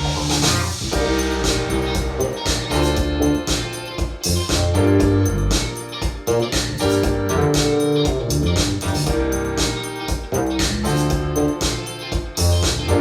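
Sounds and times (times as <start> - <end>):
music with bass and keyboard: 0.0 - 13.0.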